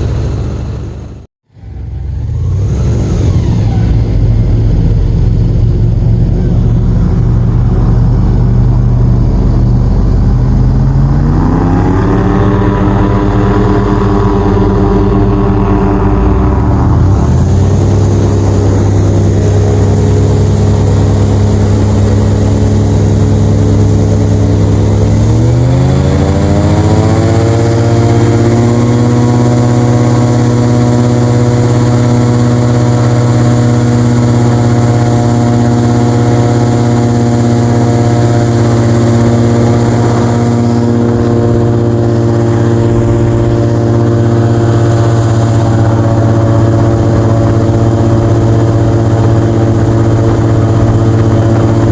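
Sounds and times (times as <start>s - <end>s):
airboat engine and propeller: 0.0s - 51.9s.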